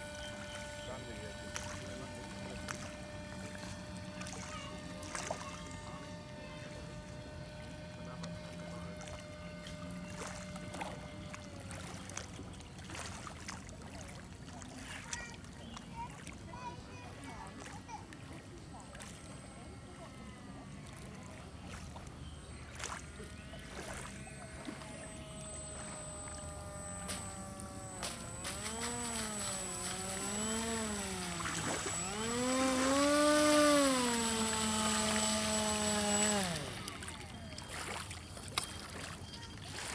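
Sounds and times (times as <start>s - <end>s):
model plane motor whining: 0.0s - 15.1s, 16.9s - 39.9s
light water splashes: 0.0s - 39.9s.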